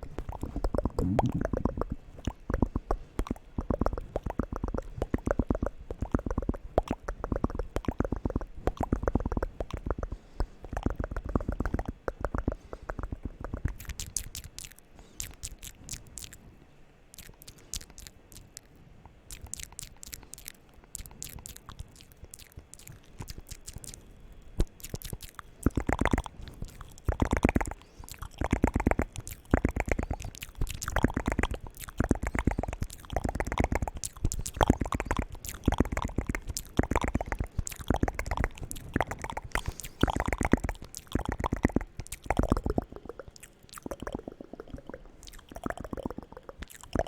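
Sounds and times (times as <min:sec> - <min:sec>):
wet mouth smacking: 0:00.0 - 0:16.4, 0:17.1 - 0:47.0
crisp mouth clicks: 0:00.0 - 0:47.0.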